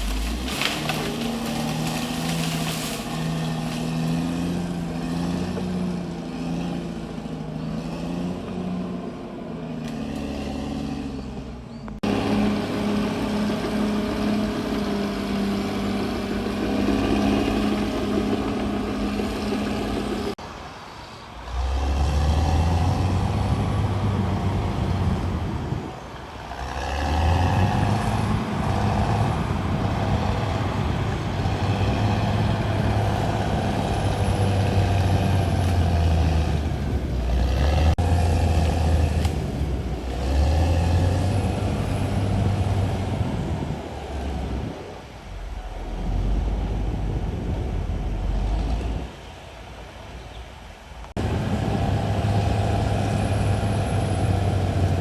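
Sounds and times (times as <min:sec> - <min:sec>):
bulldozer diesel engine running: 0:00.0 - 0:20.4, 0:21.4 - 0:49.8, 0:50.6 - 0:55.0.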